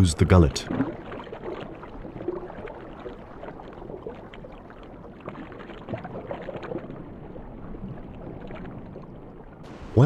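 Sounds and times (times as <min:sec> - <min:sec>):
water sloshing and bubbling: 0:00.0 - 0:10.0
small crackles: 0:00.7 - 0:09.4.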